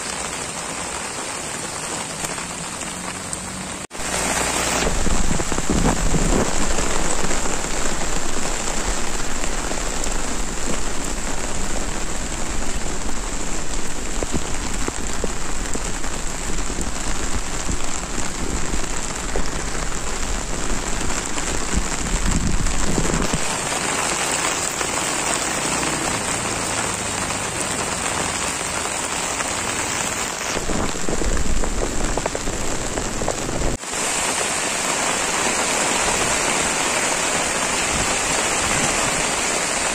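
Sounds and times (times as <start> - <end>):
heavy rain pouring on flooded street: 0.0 - 39.9.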